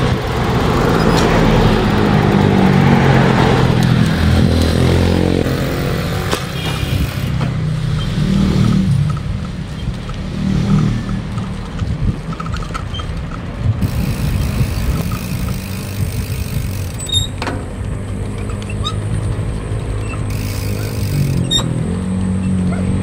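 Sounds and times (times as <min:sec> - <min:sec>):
small vehicle engine running: 0:00.0 - 0:13.0, 0:13.8 - 0:23.0
road noise: 0:00.0 - 0:23.0.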